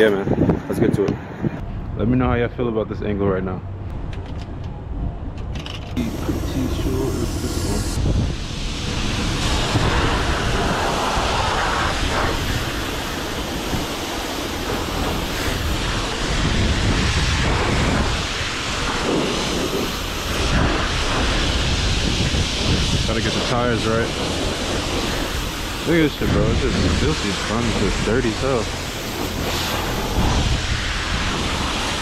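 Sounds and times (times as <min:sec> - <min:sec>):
high-pressure water spray: 0:06.0 - 0:32.0.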